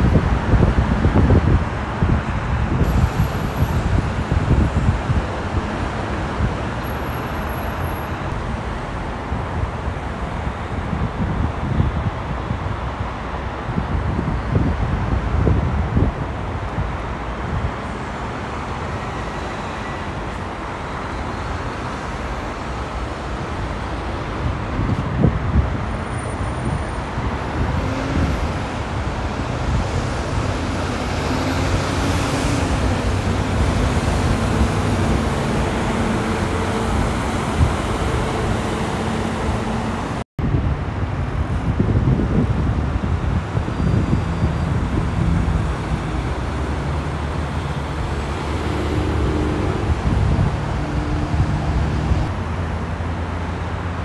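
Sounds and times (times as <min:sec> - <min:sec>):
freeway traffic rushing: 0:00.0 - 0:54.0.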